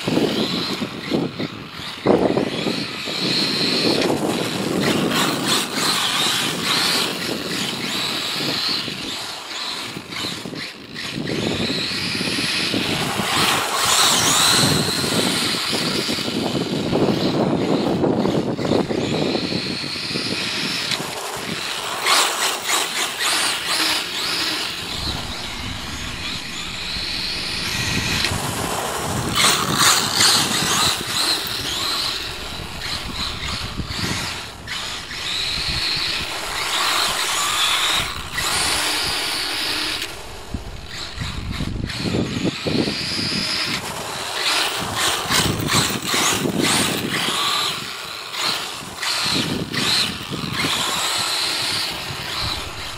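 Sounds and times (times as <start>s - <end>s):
rc car motor whining: 0.0s - 52.9s.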